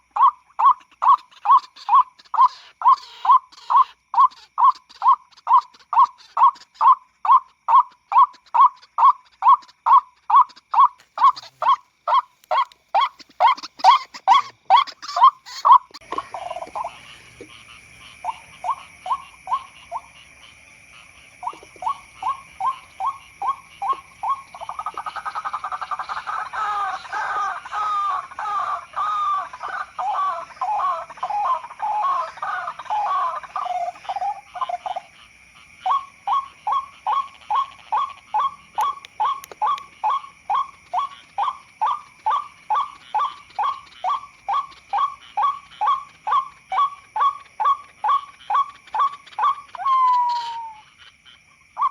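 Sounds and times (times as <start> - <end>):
waterhen calling: 0.0 - 51.1.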